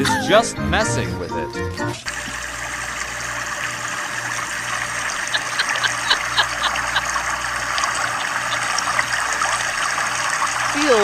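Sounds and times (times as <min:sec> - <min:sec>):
tap water pouring into tub: 0:01.8 - 0:11.0
small water splashes: 0:02.0 - 0:11.0.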